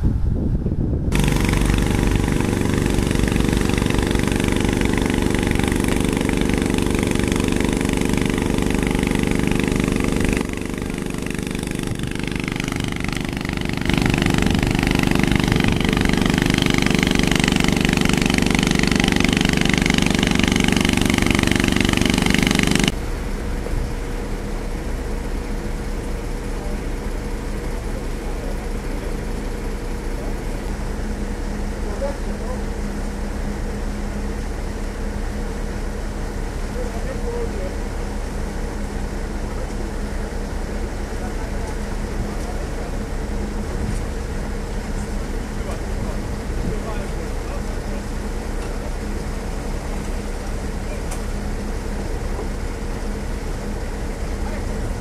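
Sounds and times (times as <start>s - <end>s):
motor pump engine running: 0.0s - 55.0s.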